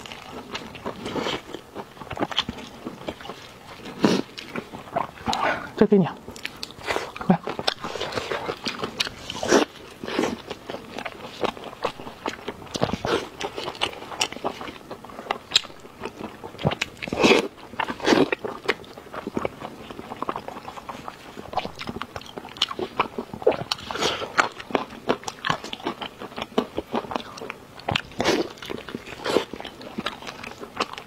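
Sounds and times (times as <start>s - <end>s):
close chewing and wet smacking: 0.0s - 31.0s.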